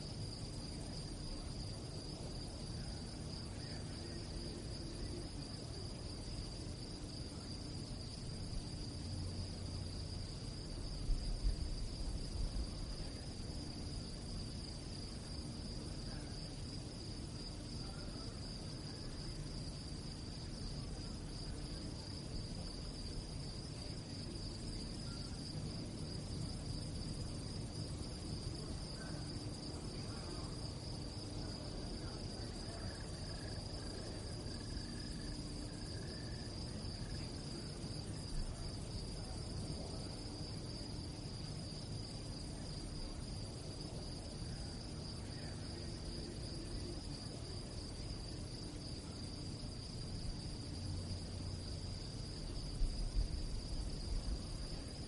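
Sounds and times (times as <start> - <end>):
crickets chirring: 0.0 - 55.0
low background rumble: 0.0 - 55.0.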